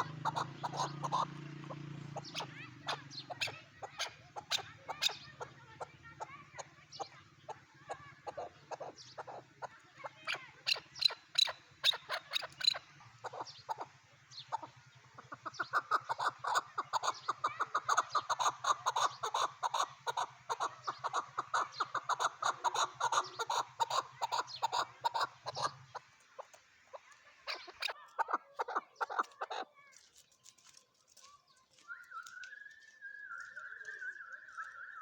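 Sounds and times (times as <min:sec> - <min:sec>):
partridge calling: 0:00.0 - 0:29.7.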